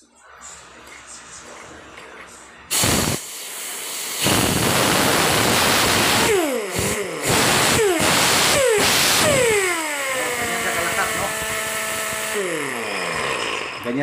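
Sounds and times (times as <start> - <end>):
air grinder whine: 0.0 - 14.0
compressed air hissing: 0.4 - 14.0.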